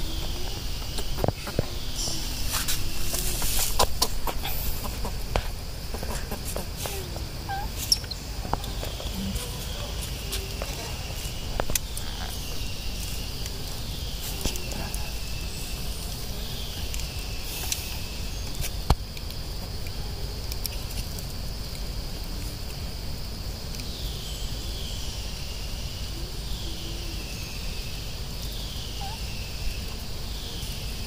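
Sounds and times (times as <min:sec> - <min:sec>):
insects shrilling: 0:00.0 - 0:31.0.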